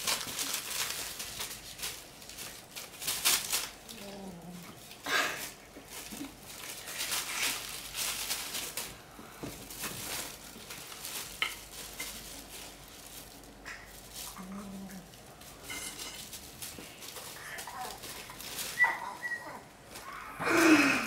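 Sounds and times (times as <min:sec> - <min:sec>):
plastic bags rustling: 0:00.0 - 0:21.0.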